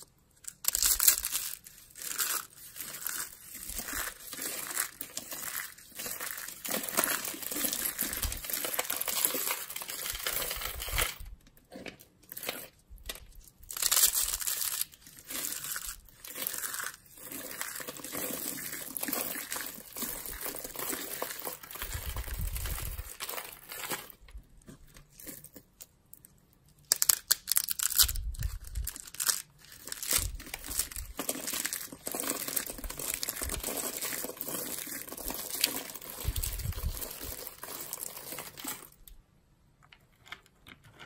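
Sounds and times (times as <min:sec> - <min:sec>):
dry soap crunching by hand: 0:00.0 - 0:39.2.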